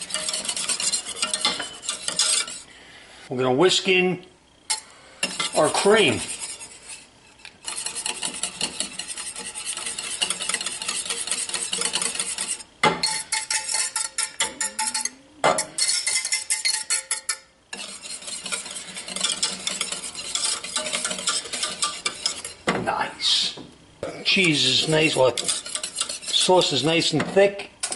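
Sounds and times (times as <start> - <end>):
whisk scraping metal saucepan: 0.0 - 2.7, 4.7 - 23.4, 24.0 - 27.9.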